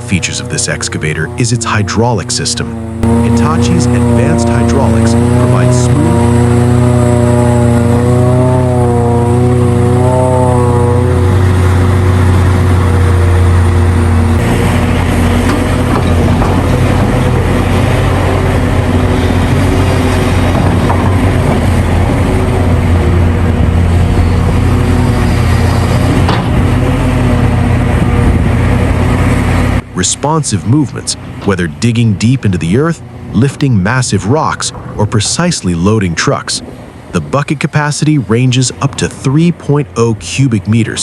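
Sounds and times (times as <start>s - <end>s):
coarse rushing noise: 0.0s - 41.0s
excavator diesel engine drone: 0.0s - 41.0s.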